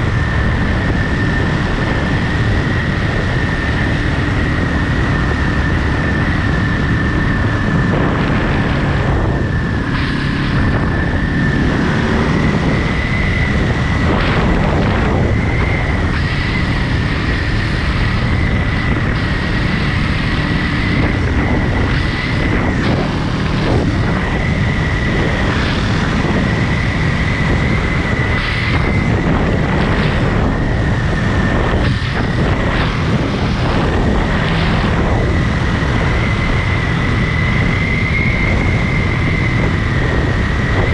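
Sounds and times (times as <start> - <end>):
motorcycle engine running: 0.0 - 40.9
steady high whine: 0.0 - 40.9
wind noise on microphone: 0.0 - 40.9.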